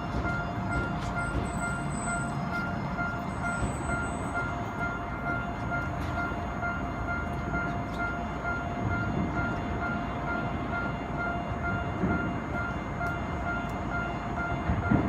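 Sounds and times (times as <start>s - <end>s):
level crossing warning bell ringing: 0.0s - 15.0s
subway train rumbling: 0.0s - 15.0s.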